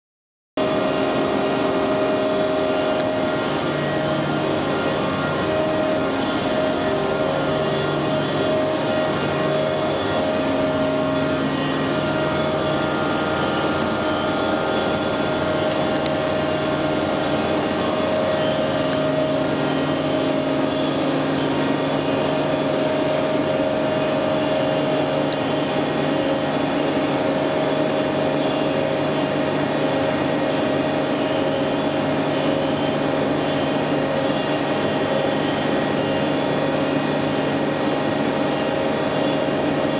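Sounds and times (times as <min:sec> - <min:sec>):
boring machine hum and whine: 0:00.6 - 0:39.9.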